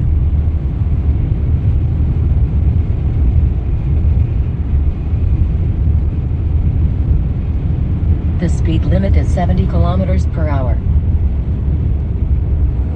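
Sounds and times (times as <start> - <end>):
car cabin road and engine noise: 0.0 - 12.9.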